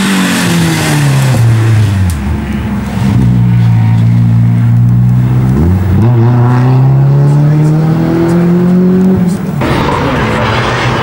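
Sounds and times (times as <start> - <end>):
rally car engine revving: 0.0 - 11.0
rough car with tyre noise: 0.0 - 11.0.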